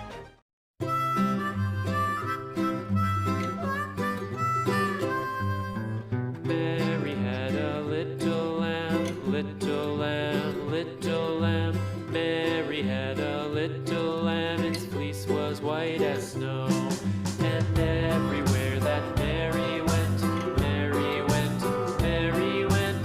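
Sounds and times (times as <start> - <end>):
country music with guitar: 0.8 - 23.0.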